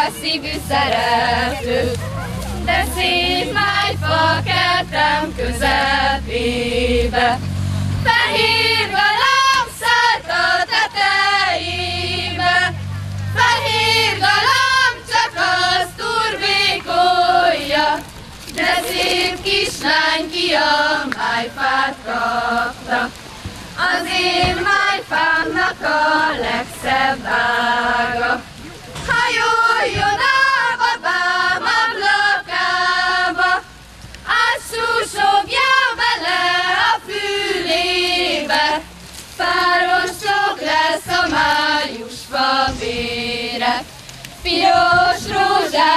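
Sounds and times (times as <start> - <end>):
girls singing in unison: 0.0 - 2.0, 2.6 - 45.9.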